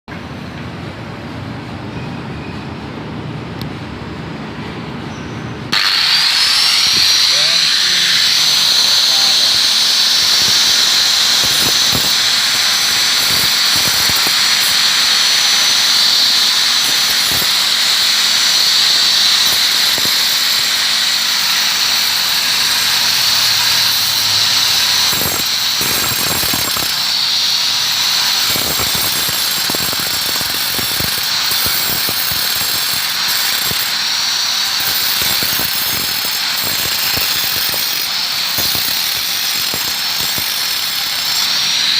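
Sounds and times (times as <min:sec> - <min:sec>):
power tool whining on stone: 0:05.7 - 0:41.9.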